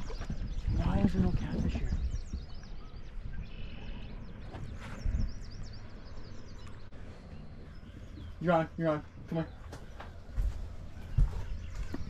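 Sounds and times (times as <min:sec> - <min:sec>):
constant low rumble: 0:00.0 - 0:12.0
small birds chirping: 0:00.0 - 0:12.0.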